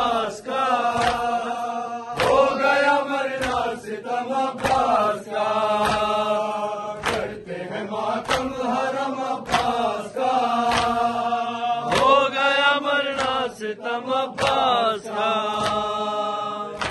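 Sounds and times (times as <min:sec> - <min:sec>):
voices chanting a lament: 0:00.0 - 0:16.9.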